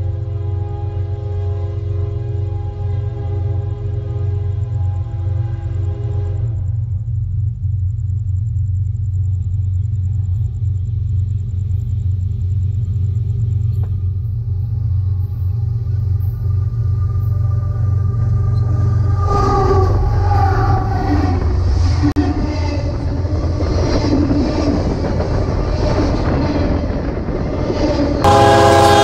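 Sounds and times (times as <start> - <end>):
diesel freight train rumbling: 0.0 - 29.0.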